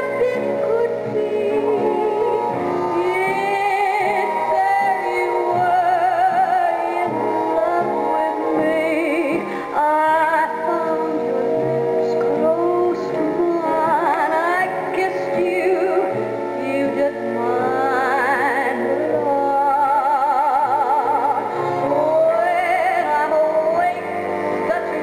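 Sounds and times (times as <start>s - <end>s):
orchestral accompaniment: 0.0s - 25.0s
woman singing with vibrato: 0.0s - 25.0s.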